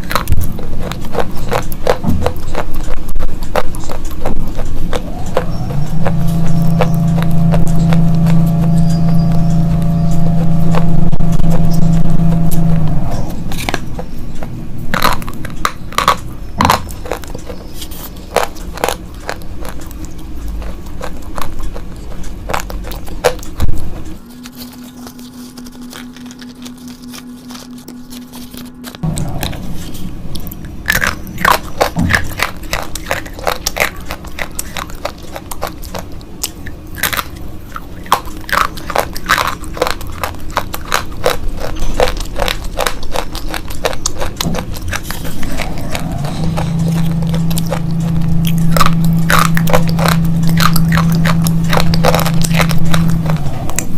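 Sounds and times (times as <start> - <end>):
low steady hum: 0.0 - 53.9
slate pencils crunching: 0.0 - 53.9.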